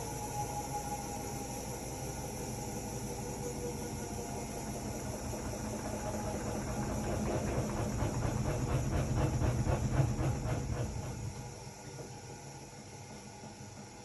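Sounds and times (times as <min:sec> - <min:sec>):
rhythmic swish of washing machine: 0:00.0 - 0:14.0
washing machine humming: 0:00.0 - 0:14.0.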